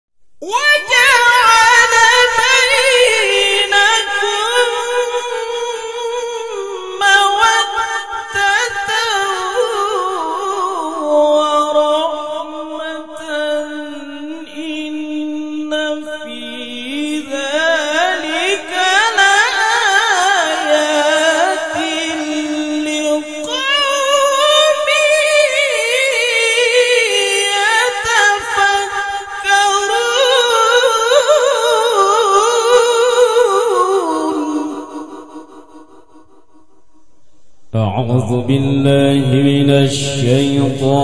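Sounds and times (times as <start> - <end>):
man reciting in melodic chant: 0.4 - 35.9, 37.7 - 41.0.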